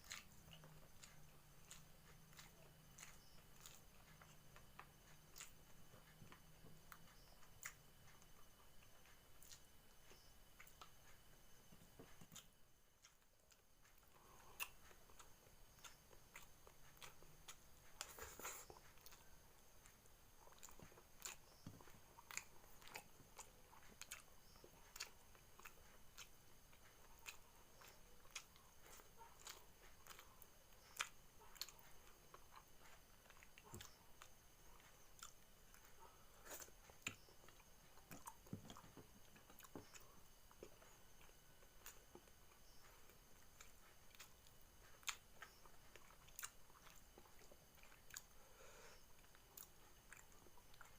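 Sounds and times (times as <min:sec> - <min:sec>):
person chewing and crunching food: 0:00.0 - 0:50.9.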